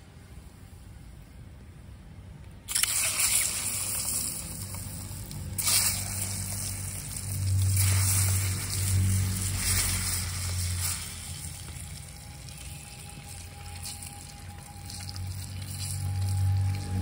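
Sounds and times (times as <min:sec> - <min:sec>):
low hum: 0:00.0 - 0:17.0
eggs sizzling in hot oil: 0:02.7 - 0:17.0.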